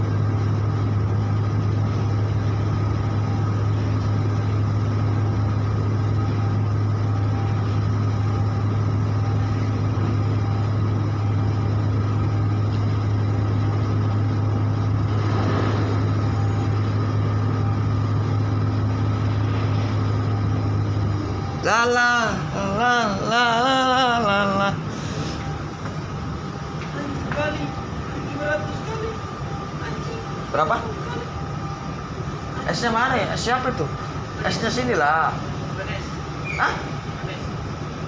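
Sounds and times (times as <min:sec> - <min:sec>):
ship diesel machinery hum: 0:00.0 - 0:38.0.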